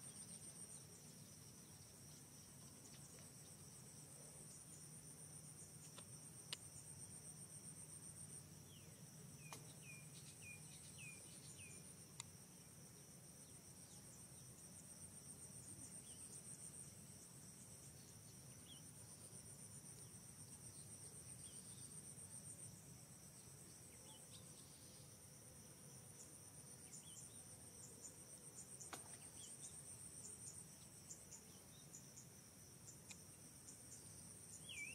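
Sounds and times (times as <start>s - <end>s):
insect chorus pulsing: 0.0s - 34.9s.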